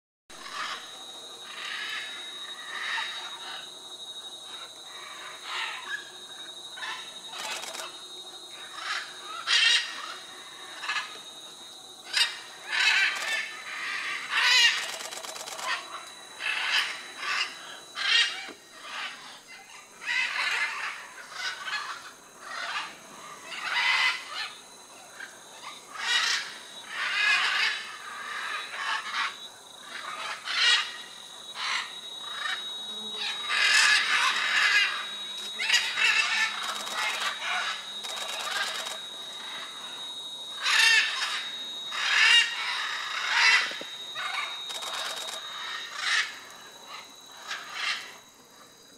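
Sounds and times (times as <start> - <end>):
thin steady high tone: 0.3 - 48.9
macaws calling: 0.4 - 3.7, 6.8 - 7.9, 8.5 - 11.2, 12.0 - 48.2.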